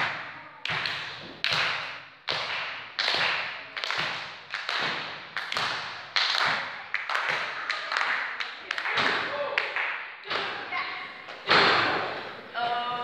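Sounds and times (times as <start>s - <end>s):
sharp echoing slaps: 0.0s - 12.2s.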